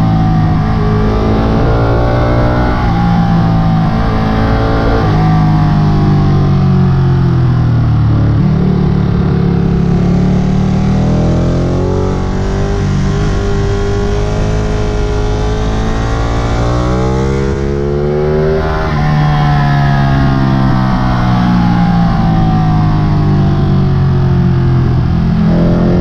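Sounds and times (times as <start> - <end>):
motorcycle engine at speed: 0.0 - 26.0.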